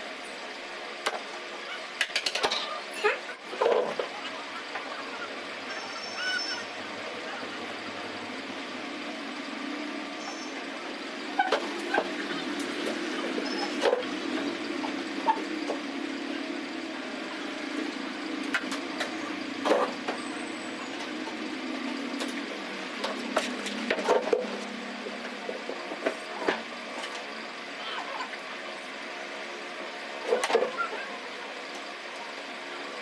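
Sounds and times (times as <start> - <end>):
fan motor humming: 0.0 - 33.0.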